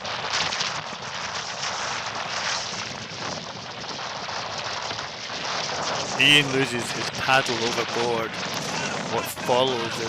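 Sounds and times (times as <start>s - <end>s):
choppy water splashing: 0.0s - 10.0s
gusty wind buffeting microphone: 0.0s - 10.0s.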